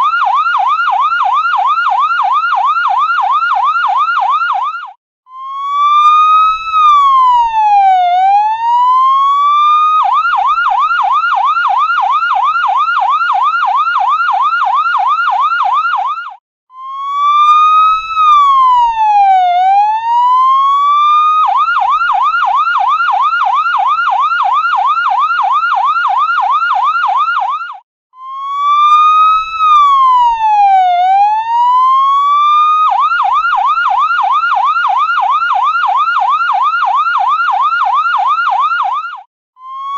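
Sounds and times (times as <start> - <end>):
ambulance siren wailing and yelping: 0.0 - 39.9.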